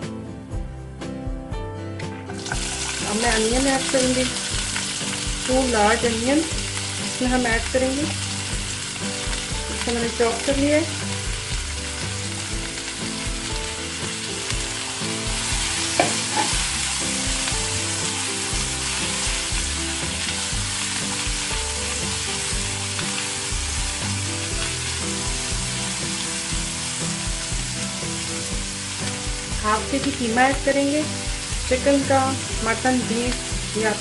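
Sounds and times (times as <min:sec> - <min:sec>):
onions sizzling in hot oil: 0:02.4 - 0:34.0.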